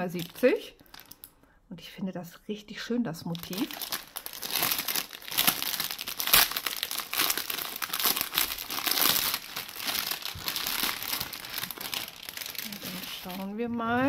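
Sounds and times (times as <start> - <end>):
plastic wrap crinkling: 0.0 - 1.4, 3.2 - 14.0.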